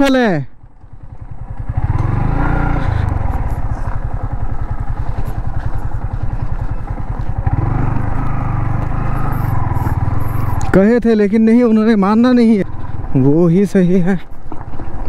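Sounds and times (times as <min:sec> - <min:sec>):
motorcycle engine on gravel: 0:00.0 - 0:15.0.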